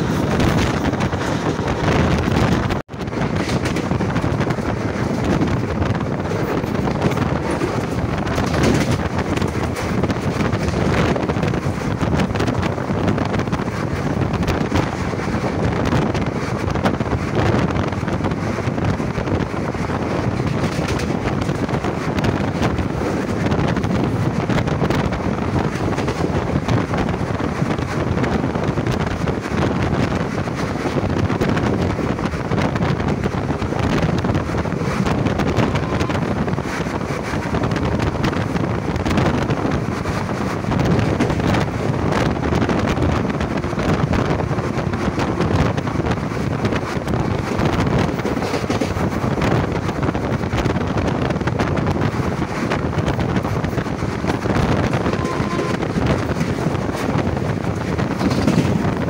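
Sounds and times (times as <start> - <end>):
train wheels rumbling on rails: 0.0 - 59.0
wind buffeting microphone: 0.0 - 59.0.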